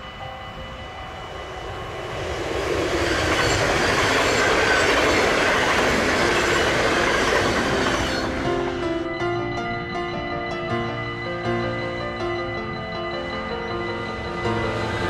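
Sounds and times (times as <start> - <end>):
faint high whine: 0.0 - 15.0
train rolling on rails: 0.0 - 15.0.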